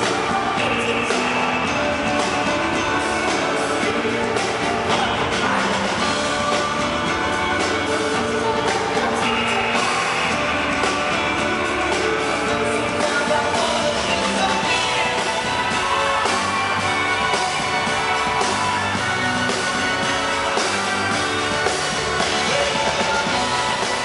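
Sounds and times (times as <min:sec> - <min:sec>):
live pop band playing: 0:00.0 - 0:24.0
man singing lead vocal: 0:00.0 - 0:24.0.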